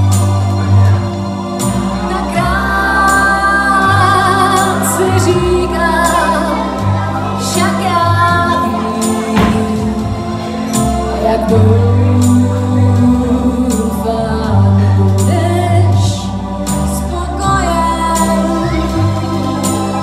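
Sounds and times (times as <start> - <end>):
amplified music with bass line: 0.0 - 20.0
woman singing into microphone: 2.0 - 20.0.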